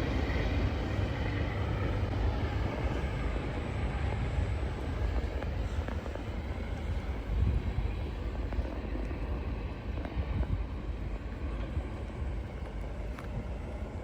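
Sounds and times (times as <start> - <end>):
faint rail noise: 0.0 - 14.0
train rumbling past: 0.0 - 14.0.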